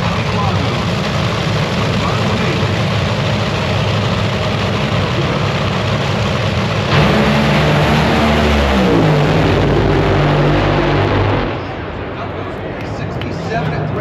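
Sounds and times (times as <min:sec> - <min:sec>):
drag racing engine at full throttle: 0:00.0 - 0:14.0.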